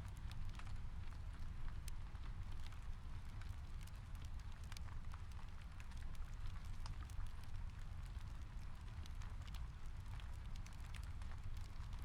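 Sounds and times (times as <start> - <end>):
rain on a window: 0.8 - 12.0.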